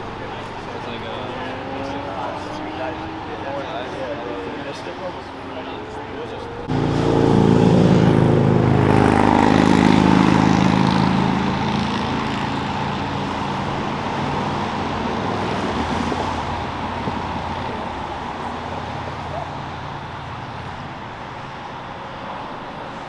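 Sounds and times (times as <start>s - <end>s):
car engine driving off: 0.0s - 23.0s.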